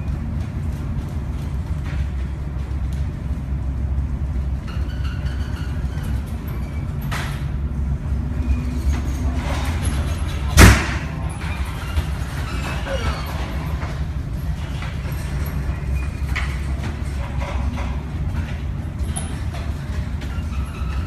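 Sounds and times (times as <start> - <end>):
low steady rumble of ship: 0.0 - 21.0.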